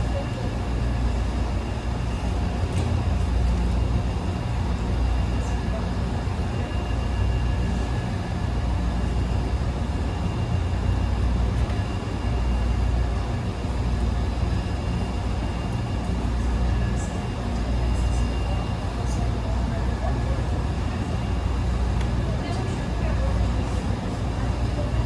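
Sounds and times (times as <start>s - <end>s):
washing machine running: 0.0s - 25.0s.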